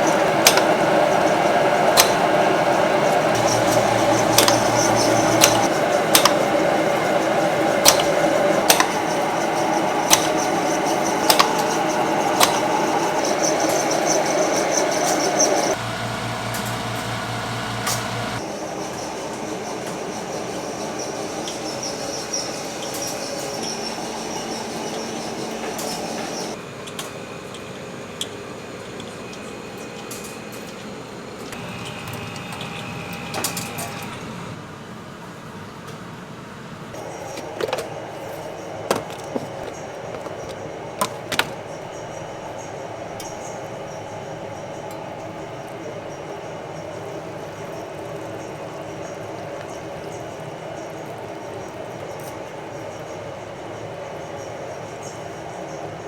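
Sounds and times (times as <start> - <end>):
kitchen machinery running: 0.0 - 26.6, 37.0 - 56.0.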